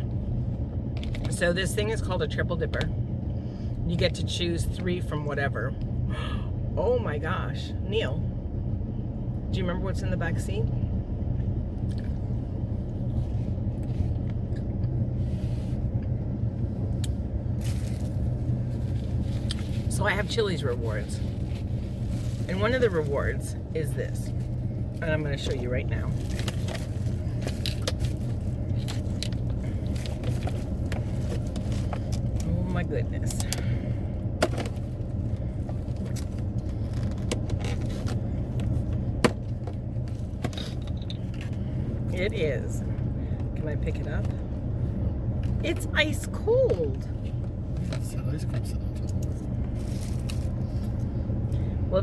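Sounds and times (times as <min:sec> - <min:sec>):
car idling low hum: 0:00.0 - 0:52.0.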